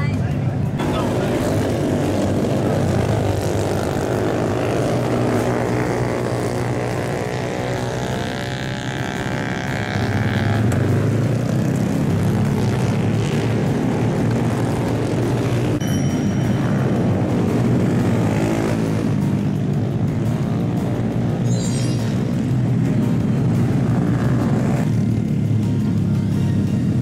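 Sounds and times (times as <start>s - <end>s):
small motorbike engines running: 0.0s - 27.0s
engine accelerating: 0.6s - 27.0s.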